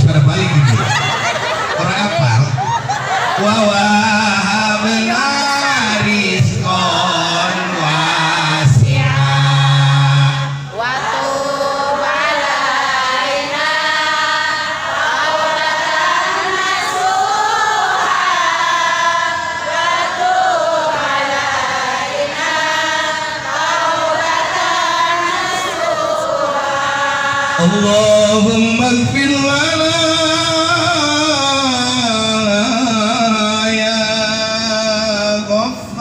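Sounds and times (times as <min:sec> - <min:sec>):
voices singing a devotional chant: 0:00.0 - 0:36.0.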